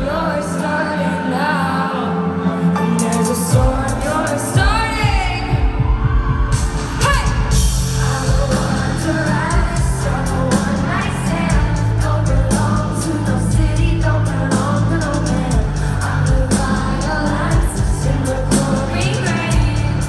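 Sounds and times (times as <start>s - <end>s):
woman singing into a microphone: 0.0s - 6.1s, 7.0s - 20.0s
live pop music: 0.0s - 20.0s.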